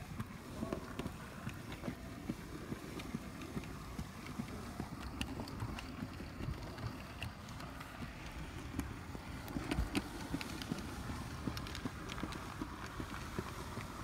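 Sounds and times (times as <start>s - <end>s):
model train motor rumble: 0.0s - 14.0s.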